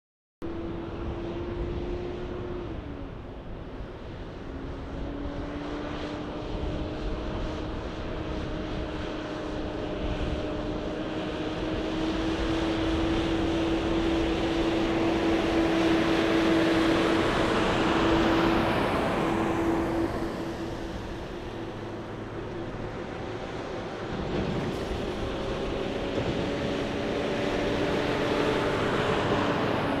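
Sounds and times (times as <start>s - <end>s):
truck diesel engine drone: 0.4s - 30.0s.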